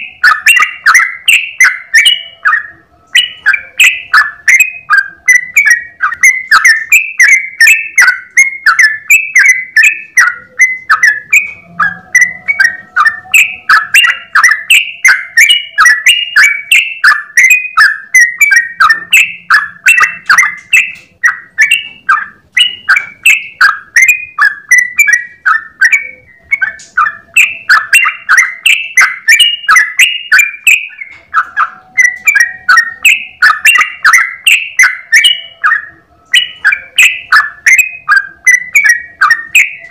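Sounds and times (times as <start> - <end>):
bird singing bubbly notes: 0.0 - 39.9.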